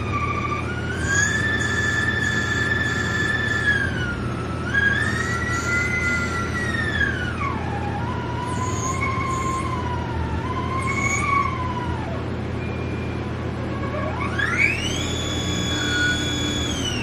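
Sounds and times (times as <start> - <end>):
lathe spindle whine: 0.0 - 17.0
low machine hum: 0.0 - 17.0.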